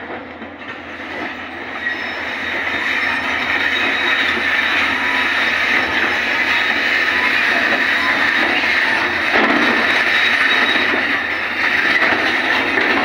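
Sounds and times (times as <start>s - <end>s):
excavator engine and hydraulics: 0.0s - 13.0s.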